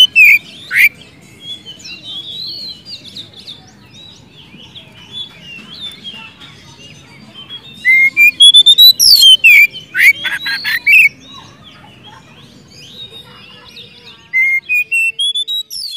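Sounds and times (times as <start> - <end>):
bird singing whistled notes: 0.0 - 6.1, 7.4 - 11.8, 12.7 - 15.9.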